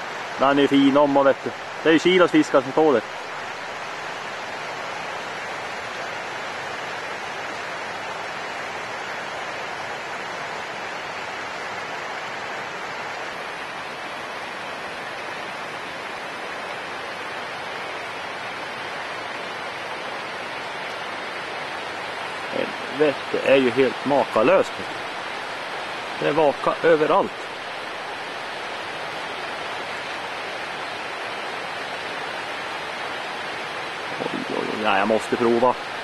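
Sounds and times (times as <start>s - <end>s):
river rapid rushing: 0.0s - 36.0s.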